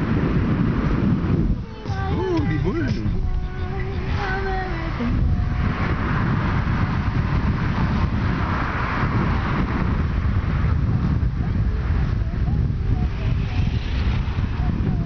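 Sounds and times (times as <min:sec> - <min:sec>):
low rumble of road and car: 0:00.0 - 0:15.0
wind rushing on microphone: 0:00.0 - 0:15.0.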